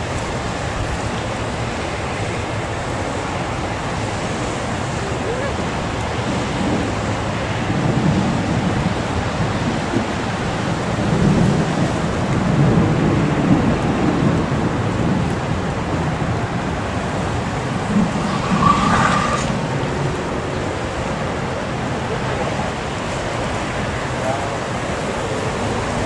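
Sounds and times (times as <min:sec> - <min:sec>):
low thunder rumble: 0:00.0 - 0:26.0
wind noise on microphone: 0:00.0 - 0:26.0.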